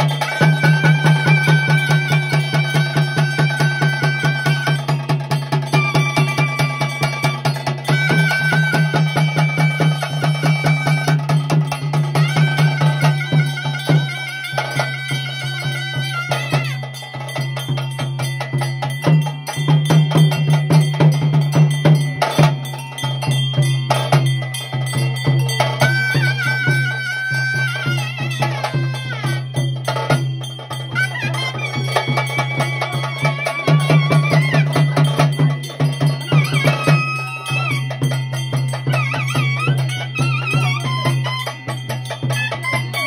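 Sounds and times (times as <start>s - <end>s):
fast dense drumming: 0.0s - 42.6s
wind instrument melody: 0.0s - 43.0s.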